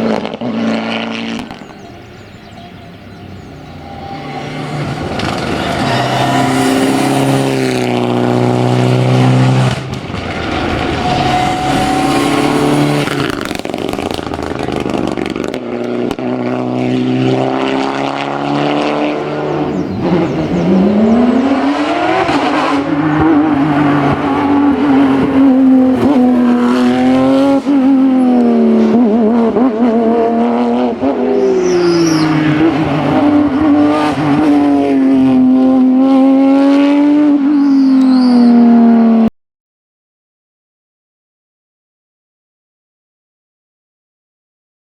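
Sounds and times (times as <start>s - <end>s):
rally car engine revving through gears: 0.0s - 39.3s
sports car engine revving high: 0.0s - 39.3s.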